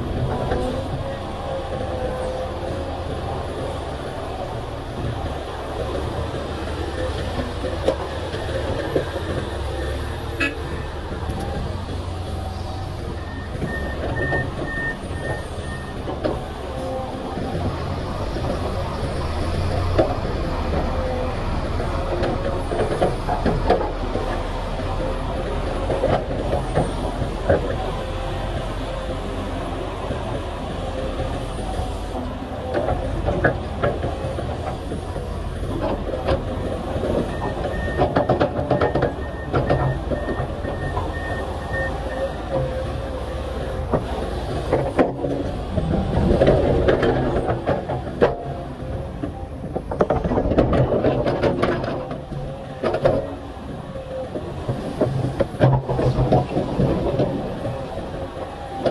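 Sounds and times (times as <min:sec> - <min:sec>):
diesel engines running under load: 0:00.0 - 0:58.9.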